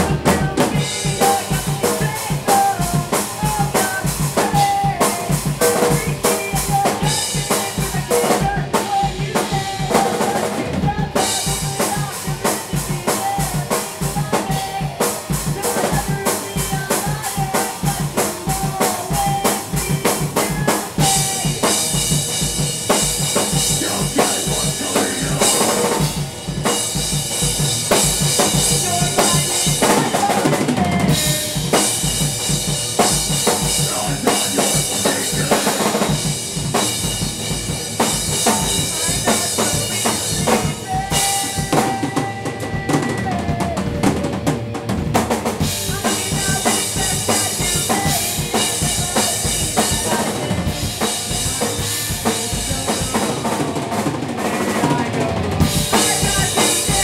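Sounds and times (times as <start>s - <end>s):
person singing into microphone: 0.0s - 22.1s, 23.3s - 26.2s, 28.0s - 32.5s, 33.2s - 36.4s, 38.2s - 44.4s, 45.6s - 57.0s
distorted electric guitars: 0.0s - 57.0s
drum kit pounding: 0.0s - 57.0s.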